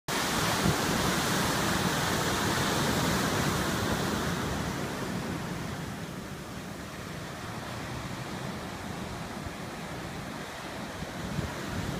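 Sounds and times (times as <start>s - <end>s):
ocean waves and surf: 0.1s - 11.9s.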